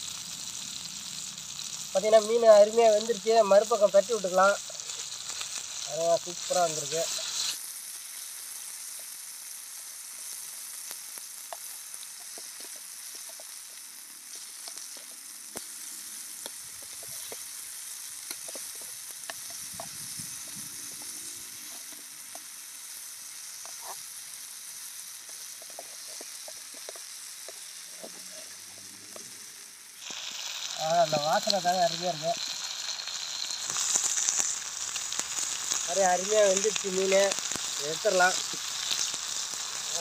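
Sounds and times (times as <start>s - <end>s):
fish sizzling in oil: 0.0s - 40.0s.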